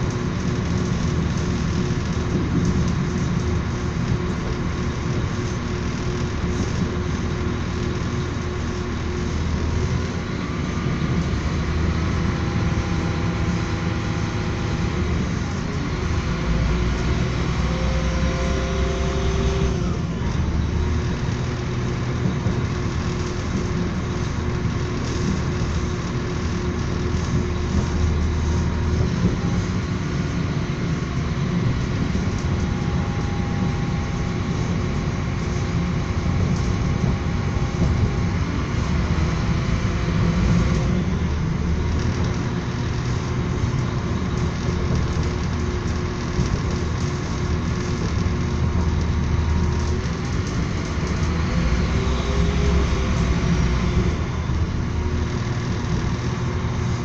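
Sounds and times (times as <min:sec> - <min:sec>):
train rumbling and rattling: 0:00.0 - 0:57.0.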